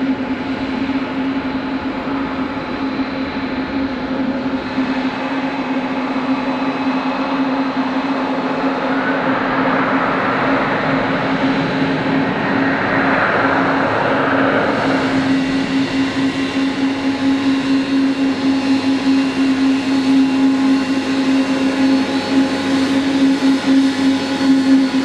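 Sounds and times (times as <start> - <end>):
jet engines humming and rushing: 0.0 - 25.0.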